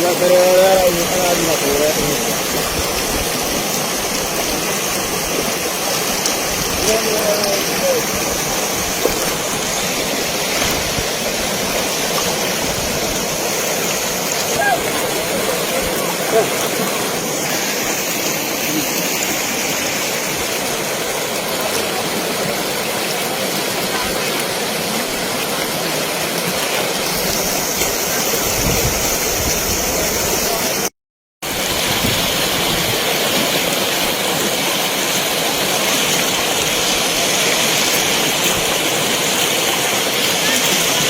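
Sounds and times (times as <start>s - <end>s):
flowing water rushing: 0.0s - 41.0s.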